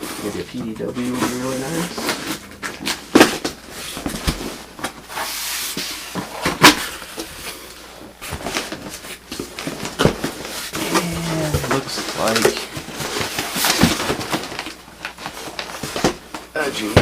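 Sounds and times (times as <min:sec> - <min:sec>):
cardboard packaging rustling: 0:00.0 - 0:17.0.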